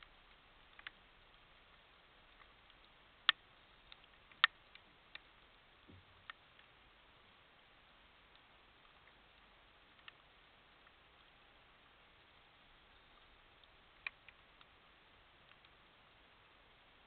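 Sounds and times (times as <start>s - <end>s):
raindrops striking camera housing: 0.0s - 16.1s
faint steady hiss: 0.0s - 17.0s.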